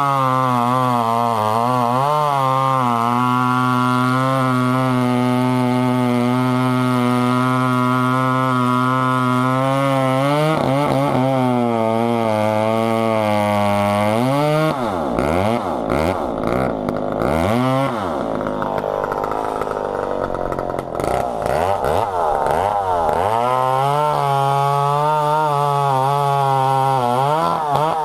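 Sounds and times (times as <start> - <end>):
chainsaw running and revving: 0.0 - 28.0.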